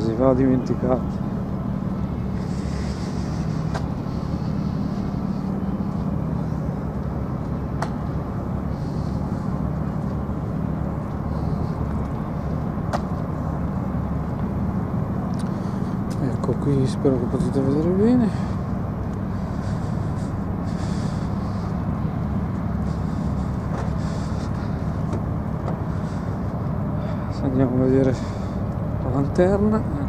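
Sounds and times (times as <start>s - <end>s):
faint hum: 0.0s - 30.0s
road noise: 0.0s - 30.0s
vehicle engine rumble: 0.0s - 30.0s.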